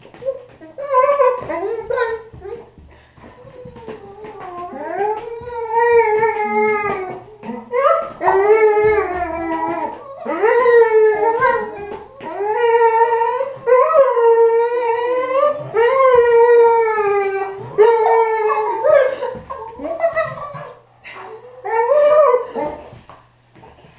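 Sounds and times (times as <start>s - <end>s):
dog howling whines: 0.1s - 23.2s.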